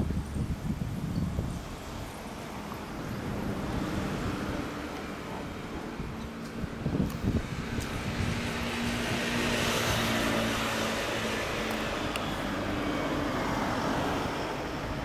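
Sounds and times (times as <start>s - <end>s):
broad rush of noise: 0.0s - 15.0s.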